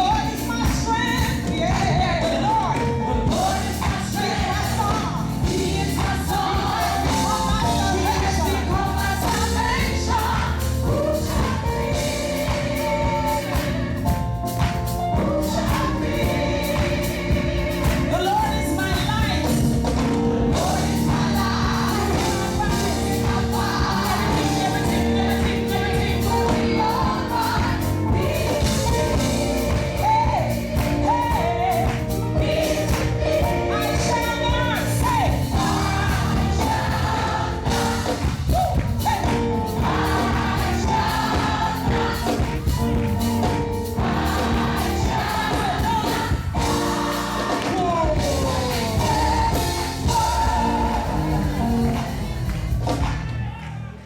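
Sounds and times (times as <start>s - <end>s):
choir singing gospel: 0.0s - 54.0s
full band with bass: 0.0s - 54.0s.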